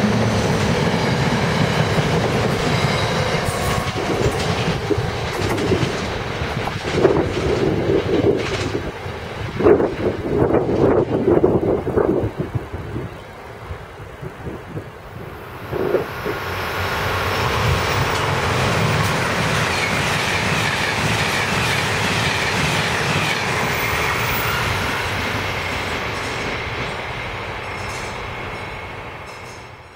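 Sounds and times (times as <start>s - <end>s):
train passing at speed: 0.0s - 29.9s.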